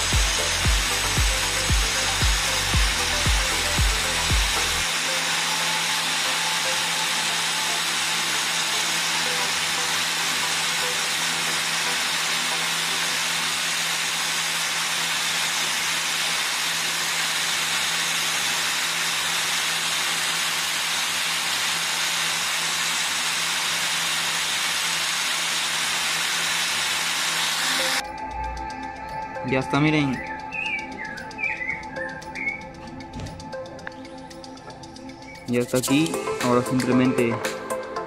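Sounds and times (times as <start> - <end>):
angle grinder grinding metal: 0.0 - 37.8.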